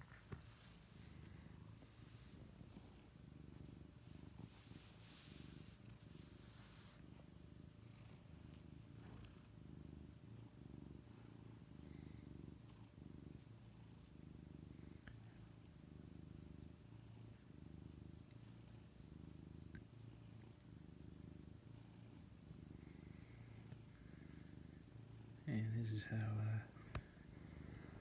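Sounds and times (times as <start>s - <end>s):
cat purring: 0.0s - 28.0s
soft rustle: 0.0s - 28.0s.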